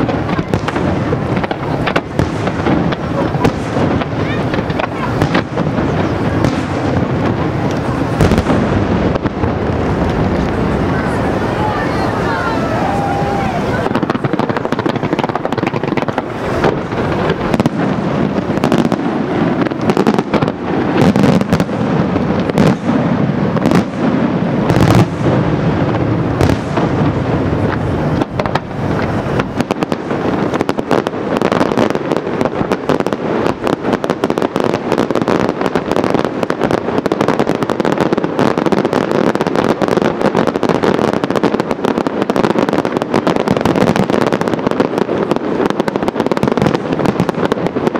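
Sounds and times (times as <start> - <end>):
heavy firework booms: 0.0 - 47.9
rapid firework crackling: 0.0 - 47.9.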